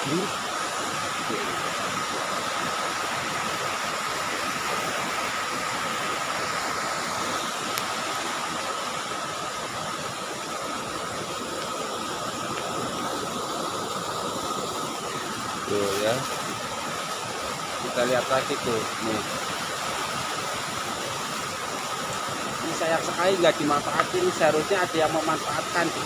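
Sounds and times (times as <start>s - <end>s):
rain and floodwater rushing: 0.0s - 26.0s.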